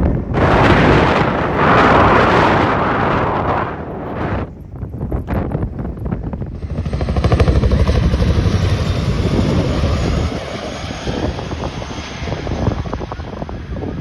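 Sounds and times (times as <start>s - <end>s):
helicopter rotors thudding: 0.0s - 14.0s.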